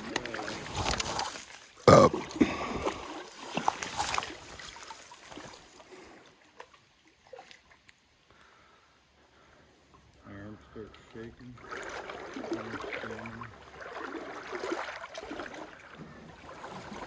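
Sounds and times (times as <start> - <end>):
water splashing in stream: 0.0 - 8.2, 11.4 - 17.0.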